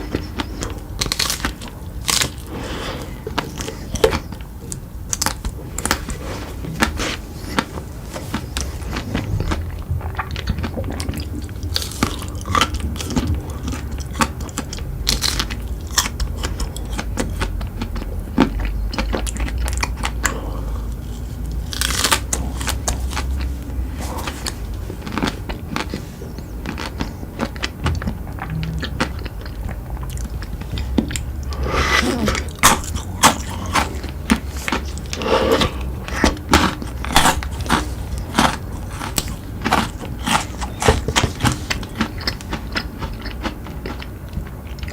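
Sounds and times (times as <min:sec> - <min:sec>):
person chewing crunchy sweets: 0:00.0 - 0:44.9.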